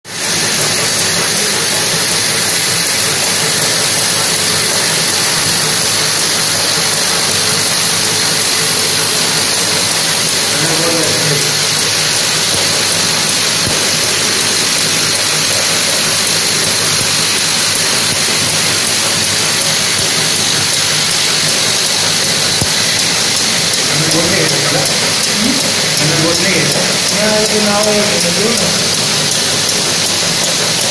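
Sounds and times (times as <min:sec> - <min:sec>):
packing machine running: 0:00.0 - 0:30.9
vibratory feeder shaking tablets: 0:00.1 - 0:30.9.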